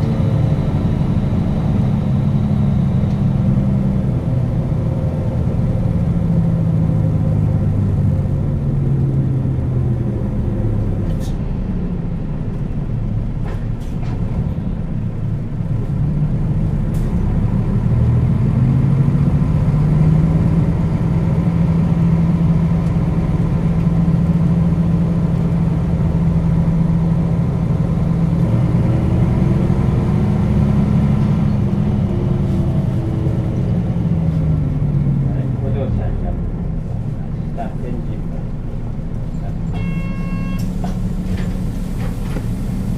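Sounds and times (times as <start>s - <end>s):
bus diesel engine accelerating: 0.0s - 42.9s.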